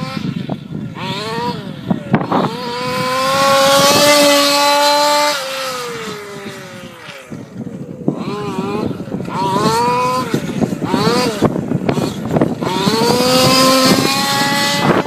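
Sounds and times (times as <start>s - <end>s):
engine running at high revs: 0.0s - 15.0s.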